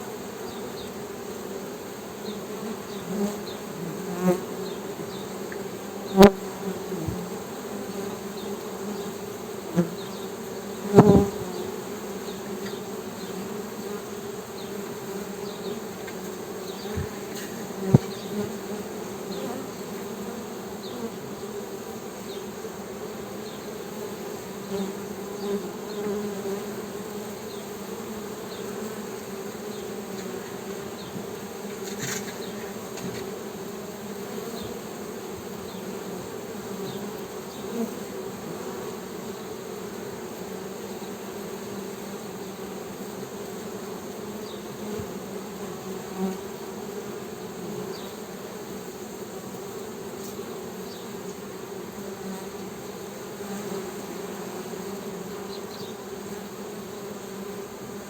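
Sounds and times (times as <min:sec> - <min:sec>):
honey bee humming: 0:00.0 - 0:58.0.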